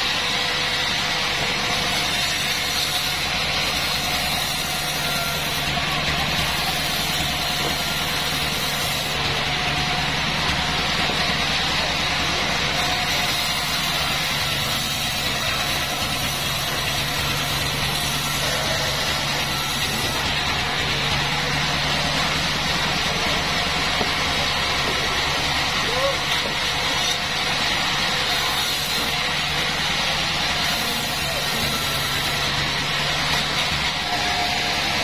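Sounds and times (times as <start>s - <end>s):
sawmill running with hum: 0.0s - 35.0s.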